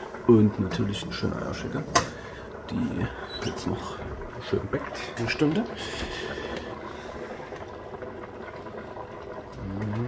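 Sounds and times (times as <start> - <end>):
soup simmering and bubbling: 0.0 - 10.0.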